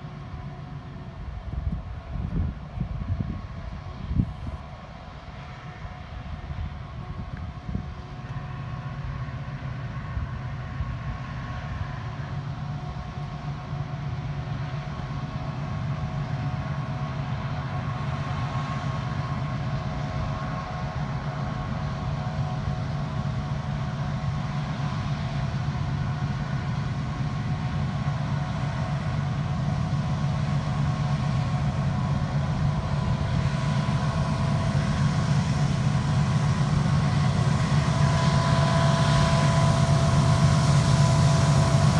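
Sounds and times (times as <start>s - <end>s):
low locomotive engine rumble: 0.0s - 41.9s.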